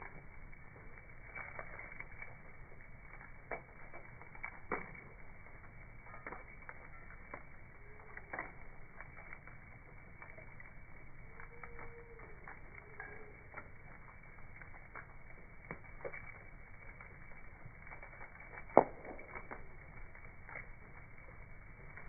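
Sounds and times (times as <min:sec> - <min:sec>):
sharp pops and snaps: 0:00.0 - 0:22.0
wood fire crackling: 0:00.0 - 0:22.0.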